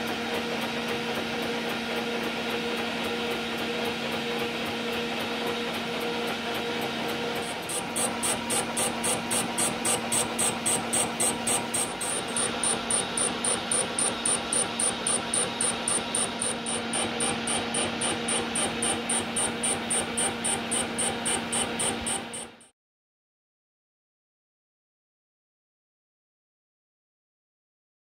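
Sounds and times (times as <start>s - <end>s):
lathe humming with pulse: 0.0s - 22.7s.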